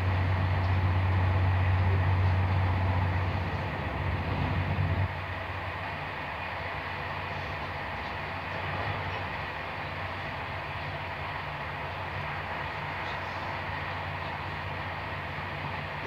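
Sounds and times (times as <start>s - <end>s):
passing train rumble: 0.0s - 16.0s
train coach rolling noise: 0.0s - 16.0s.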